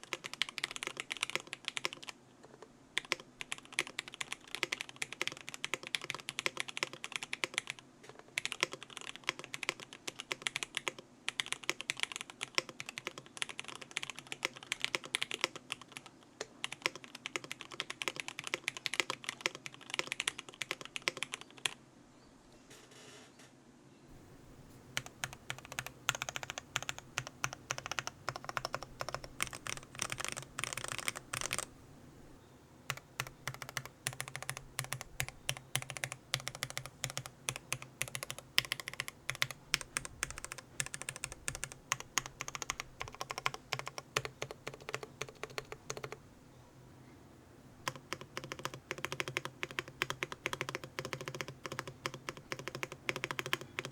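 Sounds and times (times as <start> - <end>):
mechanical keyboard typing: 0.0 - 2.2, 3.0 - 7.8, 8.4 - 21.8, 24.1 - 46.2, 47.8 - 53.9.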